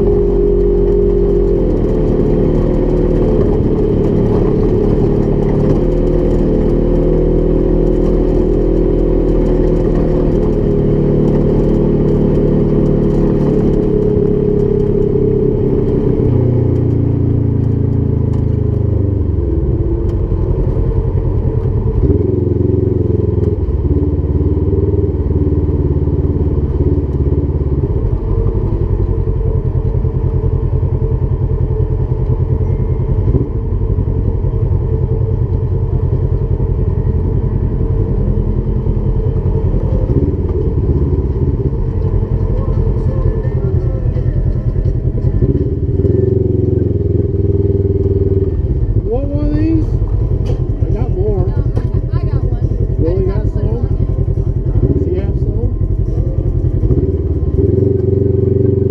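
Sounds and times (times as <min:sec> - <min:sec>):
utility vehicle engine running: 0:00.0 - 0:58.9.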